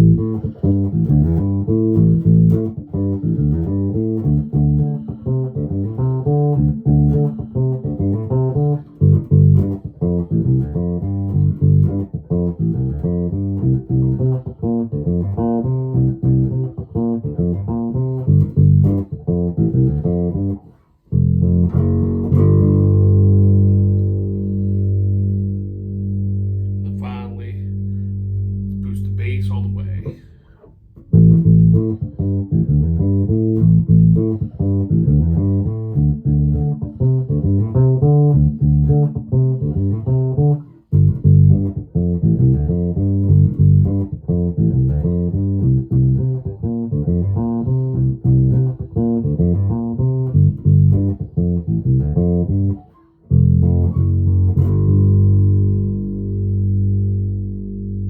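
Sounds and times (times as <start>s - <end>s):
electric bass plucked notes: 0.0s - 58.0s.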